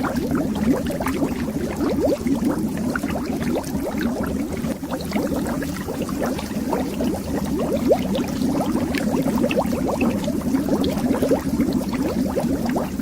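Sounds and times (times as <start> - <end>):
air bubbles underwater: 0.0 - 13.0.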